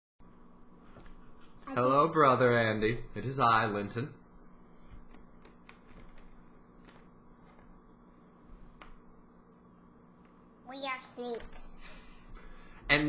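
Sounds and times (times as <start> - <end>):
low steady hum: 0.2 - 13.0.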